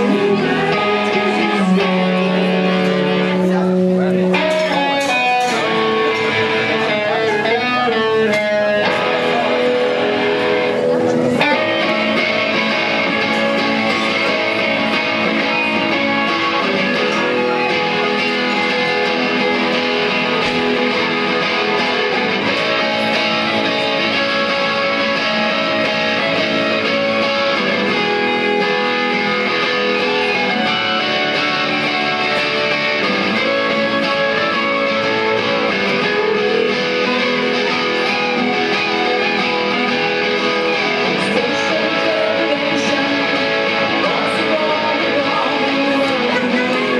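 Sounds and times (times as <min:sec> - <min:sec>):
live band playing guitars: 0:00.0 - 0:46.9.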